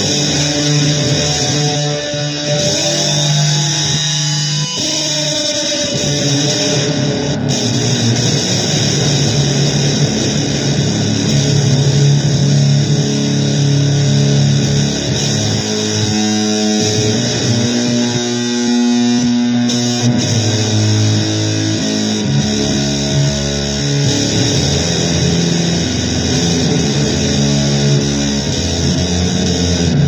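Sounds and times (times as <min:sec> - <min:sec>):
blues guitar playing: 0:00.0 - 0:30.0.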